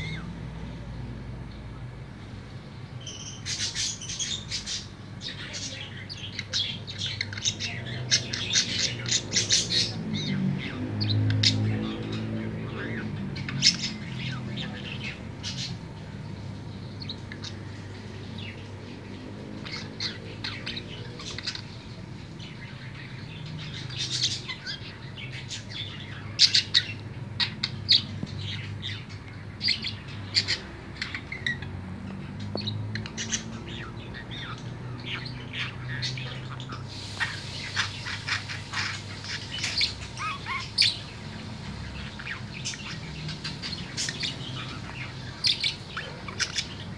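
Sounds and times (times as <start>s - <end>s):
budgerigar warbling and chirping: 0.0s - 0.4s, 3.0s - 16.0s, 19.3s - 46.9s.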